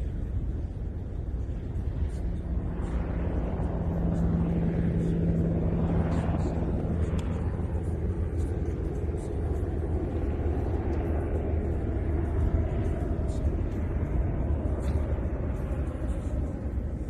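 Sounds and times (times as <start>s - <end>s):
aircraft engine hum: 0.0s - 17.0s
wind: 0.0s - 17.0s.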